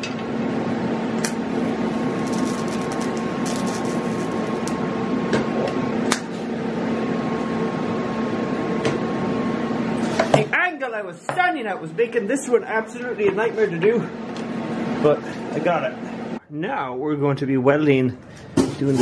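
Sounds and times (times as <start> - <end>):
metalworking tool electric hum: 0.0 - 16.4, 17.5 - 19.0.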